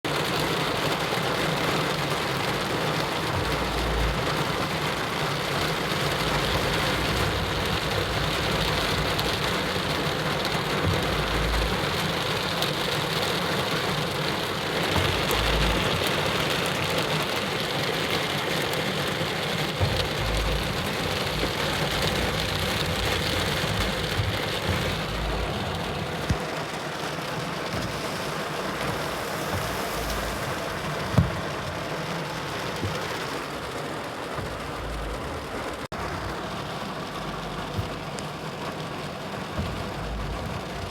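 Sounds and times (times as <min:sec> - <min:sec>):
heavy rain falling and splashing: 0:00.0 - 0:40.9
low rumbles: 0:03.0 - 0:13.2, 0:14.4 - 0:16.6, 0:19.6 - 0:38.7, 0:39.3 - 0:40.9.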